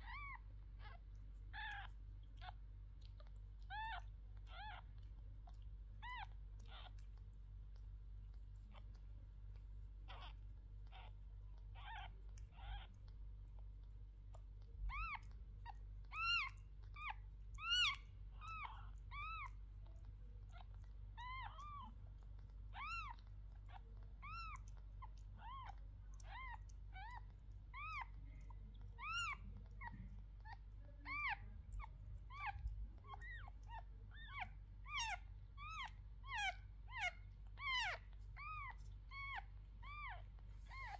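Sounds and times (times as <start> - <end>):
kittens mewing: 0.0 - 7.2, 10.0 - 13.0, 14.6 - 22.2, 22.8 - 40.9.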